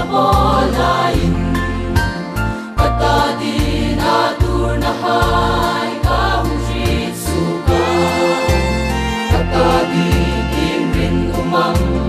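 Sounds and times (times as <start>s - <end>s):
choir singing gospel song: 0.0s - 12.0s.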